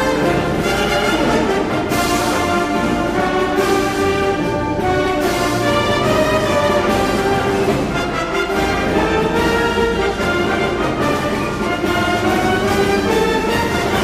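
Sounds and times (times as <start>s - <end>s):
brass band playing lively tune: 0.0s - 14.0s.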